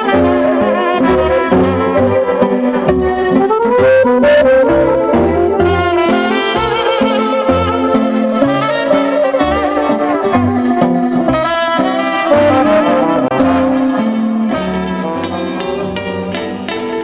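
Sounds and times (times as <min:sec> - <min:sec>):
accordion: 0:00.0 - 0:17.0
bass line: 0:00.0 - 0:17.0
electric guitar: 0:00.0 - 0:17.0
keyboard: 0:00.0 - 0:17.0
trumpet melody with vibrato: 0:00.0 - 0:17.0.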